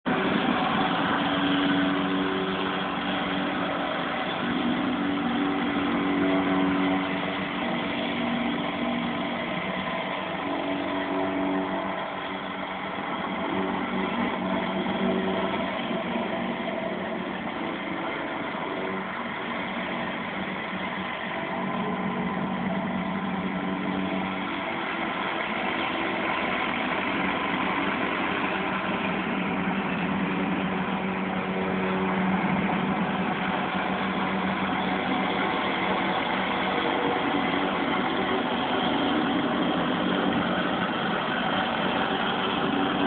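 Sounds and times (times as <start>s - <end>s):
plate compactor running: 0.0s - 43.0s.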